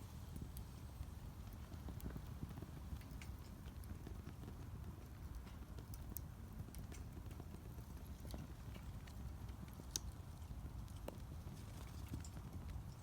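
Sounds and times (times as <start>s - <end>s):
fire flame rumble: 0.0s - 13.0s
wood crackling and popping: 0.0s - 13.0s.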